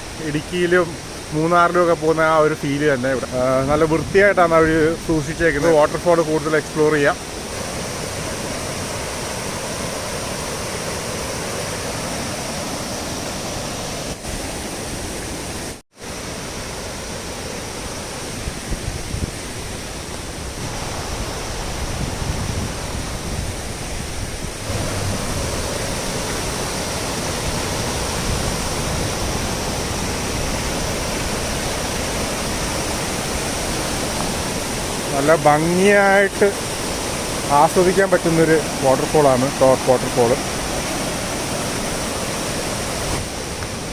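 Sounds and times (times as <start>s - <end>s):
waterfall: 0.0s - 43.9s.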